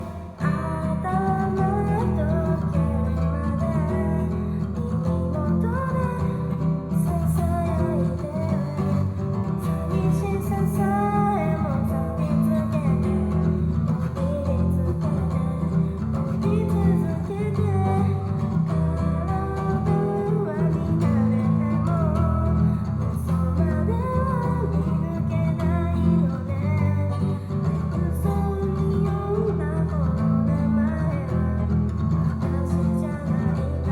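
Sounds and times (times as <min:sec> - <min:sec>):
person singing: 0:00.0 - 0:33.9
strummed acoustic guitar: 0:00.0 - 0:33.9.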